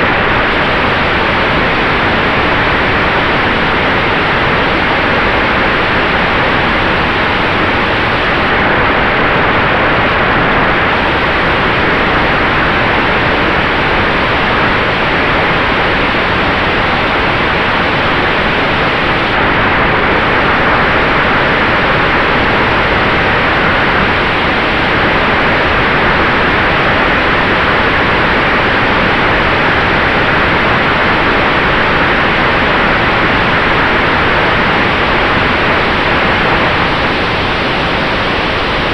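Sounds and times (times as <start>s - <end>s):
faint steady whine: 0.0s - 38.9s.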